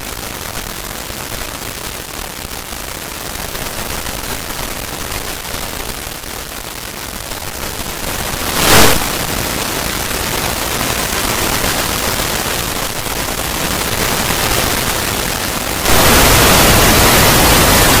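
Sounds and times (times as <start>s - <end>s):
static-like hiss: 0.0s - 18.0s.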